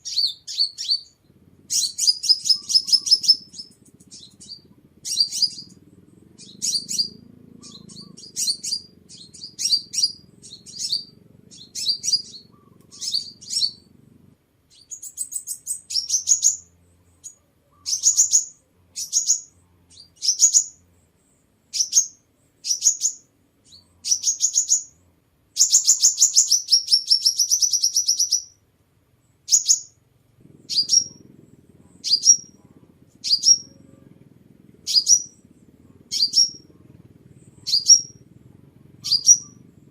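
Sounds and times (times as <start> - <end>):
bird chirping and trilling: 0.0 - 13.9, 14.7 - 20.8, 21.7 - 25.0, 25.6 - 28.6, 29.4 - 39.9
faint low rumble: 0.0 - 26.6, 28.5 - 39.9.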